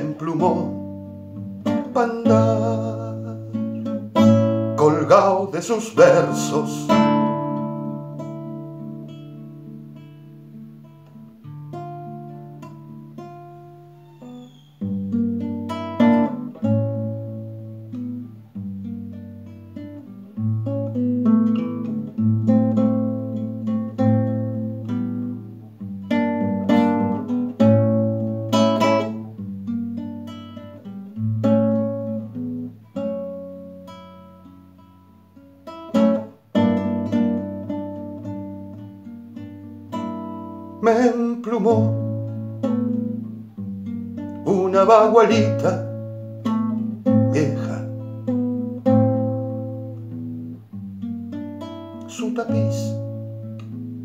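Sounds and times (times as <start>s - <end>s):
classical guitar playing: 0.0s - 54.0s.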